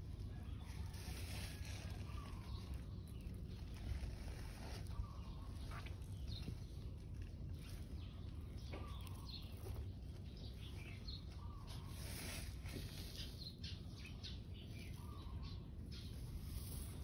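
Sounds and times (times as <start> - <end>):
low background rumble: 0.0 - 17.0
faint bird chirps: 0.3 - 17.0.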